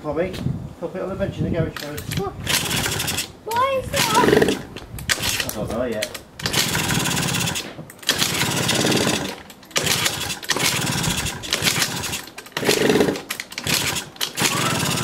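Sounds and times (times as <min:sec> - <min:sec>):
moped engine being kick-started: 0:01.8 - 0:15.0.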